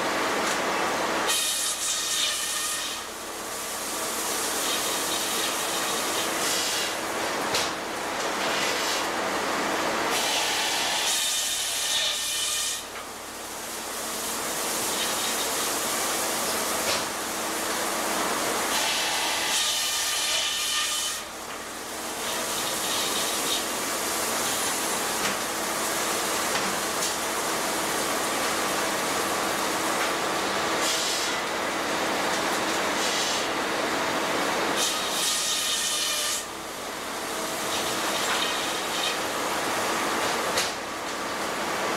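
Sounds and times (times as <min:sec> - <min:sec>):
circular saw cutting log: 0:01.2 - 0:09.2, 0:09.9 - 0:34.0, 0:34.6 - 0:40.9.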